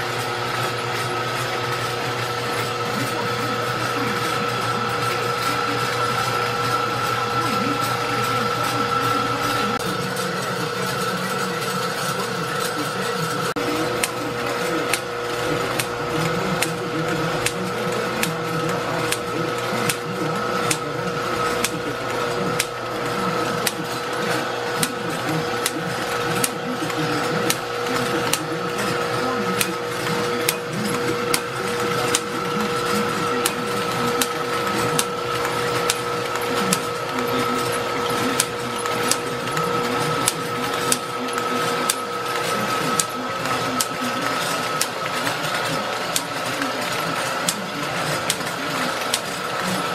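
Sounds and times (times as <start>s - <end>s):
motor whine: 0.0s - 49.9s.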